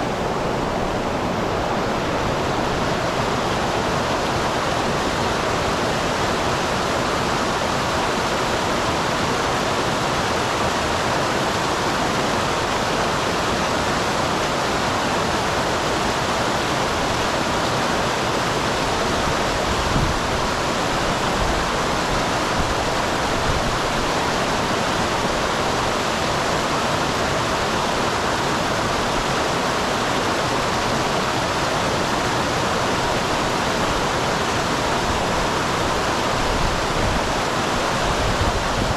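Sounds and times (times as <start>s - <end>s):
small waterfall pouring: 2.0s - 38.9s.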